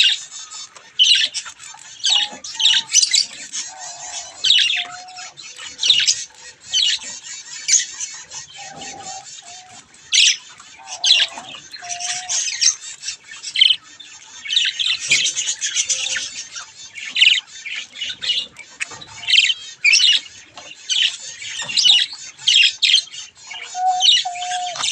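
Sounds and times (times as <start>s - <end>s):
budgerigars chirping and chattering: 0.0s - 24.9s.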